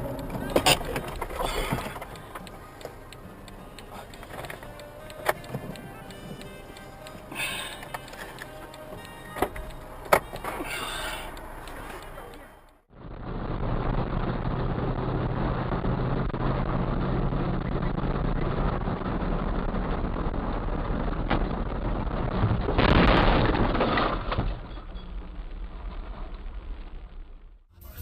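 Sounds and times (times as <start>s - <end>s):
car engine hum and road noise: 0.0s - 22.9s.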